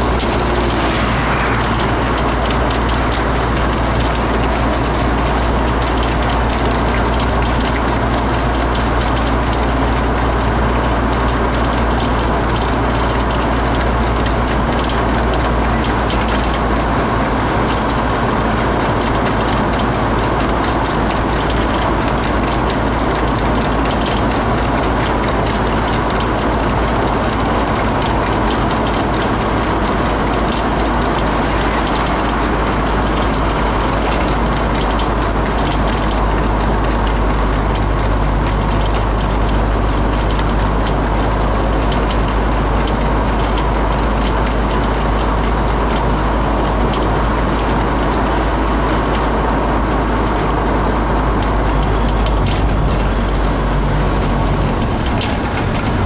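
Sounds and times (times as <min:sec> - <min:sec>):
hooves clattering on tarmac: 0:00.0 - 0:56.0
vehicle rumble and wind noise: 0:00.0 - 0:56.0.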